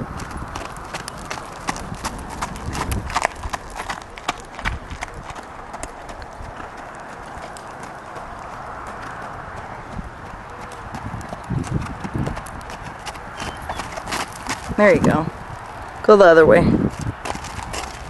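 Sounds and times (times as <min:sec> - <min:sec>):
horse hoofbeats: 0:00.0 - 0:15.8, 0:16.8 - 0:18.0.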